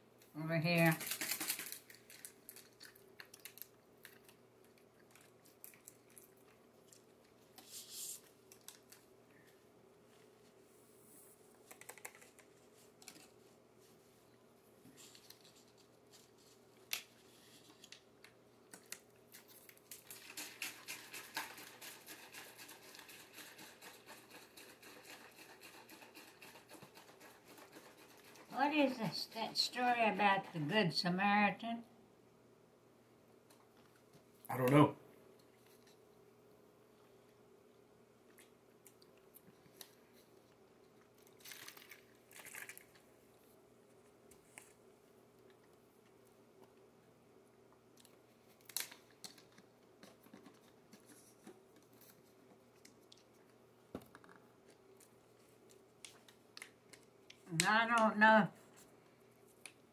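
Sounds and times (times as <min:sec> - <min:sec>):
faint steady hum: 0:00.0 - 0:59.9
soft crunching noises: 0:00.2 - 0:30.5, 0:33.4 - 0:57.5.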